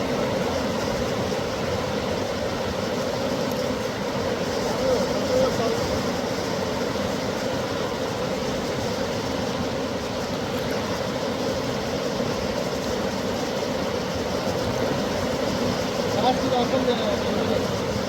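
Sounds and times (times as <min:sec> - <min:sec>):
fast-flowing river rushing: 0:00.0 - 0:18.0.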